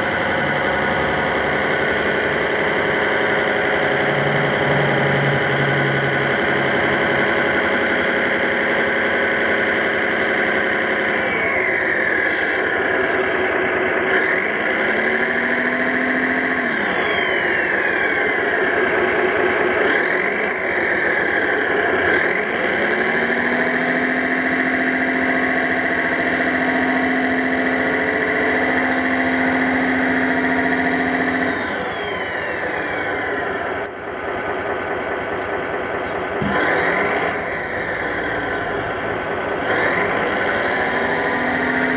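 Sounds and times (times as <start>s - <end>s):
motor whine gliding: 0.0s - 34.1s, 35.0s - 41.9s.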